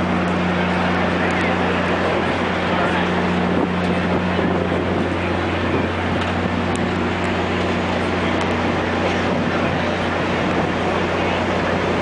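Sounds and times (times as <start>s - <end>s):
diesel locomotive engine idling: 0.0s - 12.0s.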